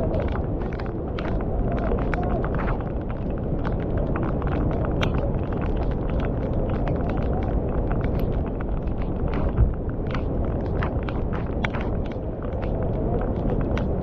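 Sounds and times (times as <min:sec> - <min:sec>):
water rushing over boulders: 0:00.0 - 0:14.0.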